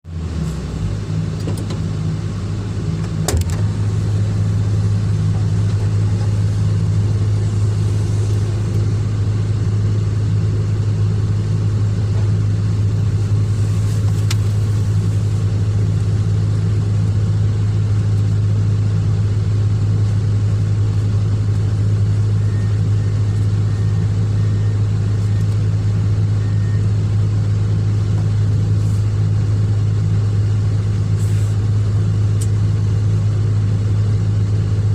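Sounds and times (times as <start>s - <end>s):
excavator diesel engine drone: 0.0s - 34.9s.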